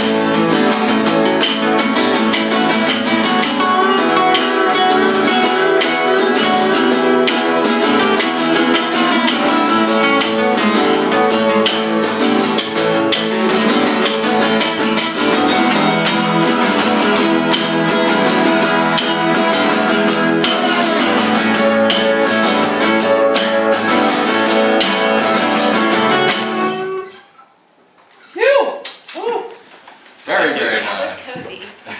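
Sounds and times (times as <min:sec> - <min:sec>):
sharp bright percussion hits: 0:00.0 - 0:27.2
strummed acoustic guitar: 0:00.0 - 0:27.4.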